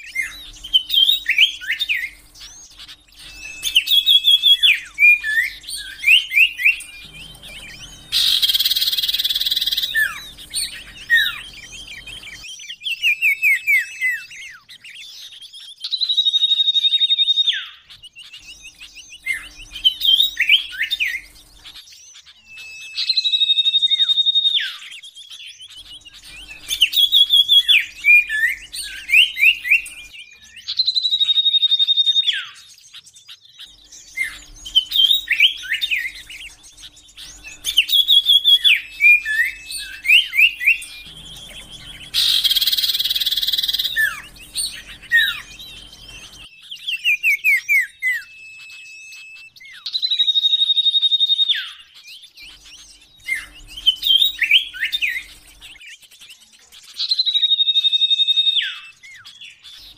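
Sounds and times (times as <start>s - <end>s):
bird singing whistled phrases: 0.0s - 59.9s.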